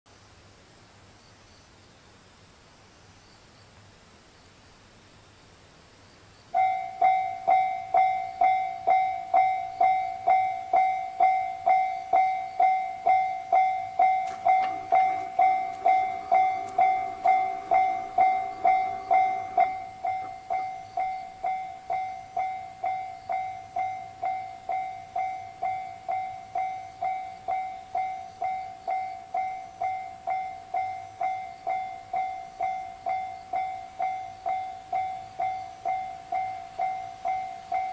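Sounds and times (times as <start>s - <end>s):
level crossing warning bell: 6.6s - 37.9s.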